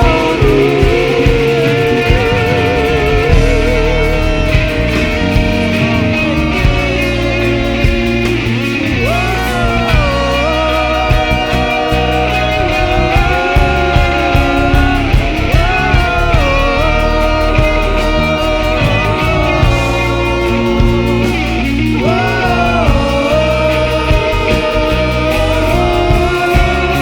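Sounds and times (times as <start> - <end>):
band playing instrumental music: 0.0 - 27.0.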